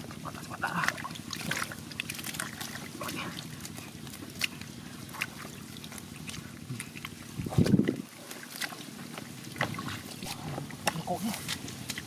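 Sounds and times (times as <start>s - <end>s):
hands squelching in muddy water: 0.0s - 12.0s
water splashes: 0.0s - 12.0s.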